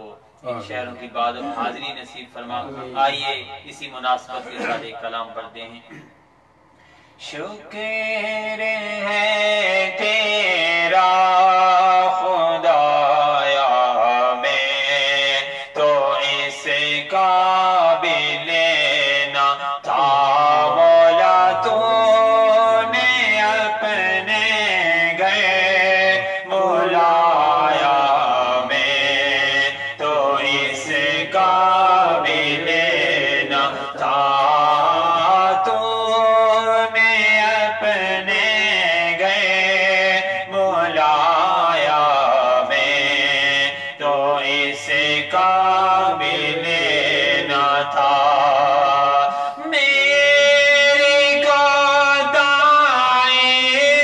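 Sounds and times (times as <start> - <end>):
man singing unaccompanied: 7.2 - 54.0.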